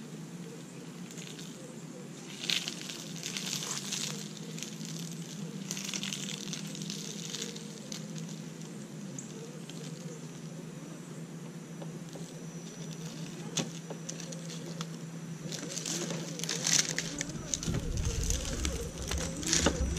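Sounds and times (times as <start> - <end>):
tyres crunching dry leaves: 0.9 - 10.8, 12.0 - 19.9.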